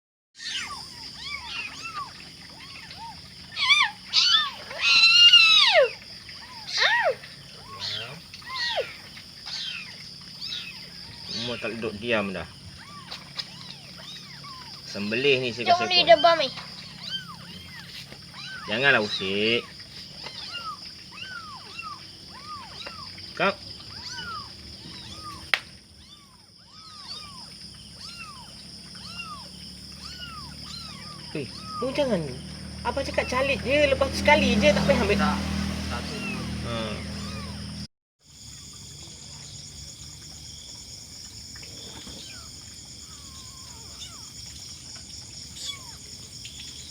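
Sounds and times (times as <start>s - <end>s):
kittens meowing: 0.4s - 35.1s, 36.0s - 37.8s, 41.8s - 44.5s, 45.5s - 46.2s.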